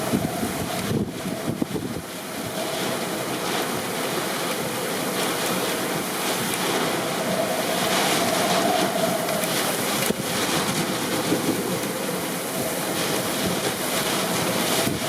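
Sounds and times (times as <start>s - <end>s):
heavy rain: 0.0s - 15.0s
hurricane wind: 0.0s - 15.0s.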